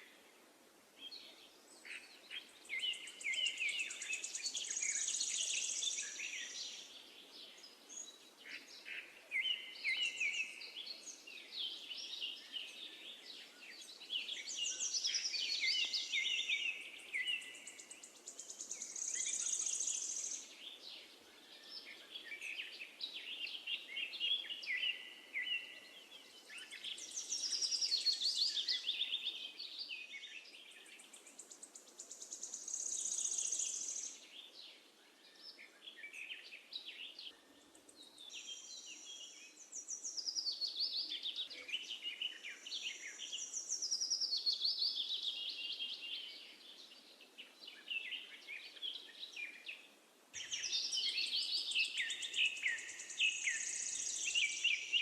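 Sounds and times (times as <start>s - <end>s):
faint background hiss: 0.0s - 55.0s
songbirds chirping and trilling: 0.0s - 55.0s.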